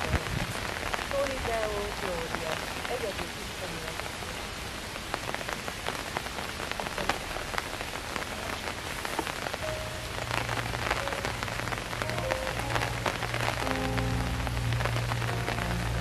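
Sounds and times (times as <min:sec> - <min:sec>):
steady rain with drops tapping: 0:00.0 - 0:16.0.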